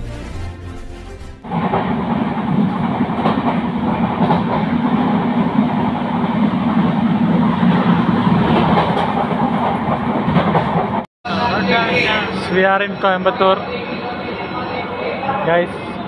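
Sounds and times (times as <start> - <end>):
train carriage rumble: 1.2 - 16.0.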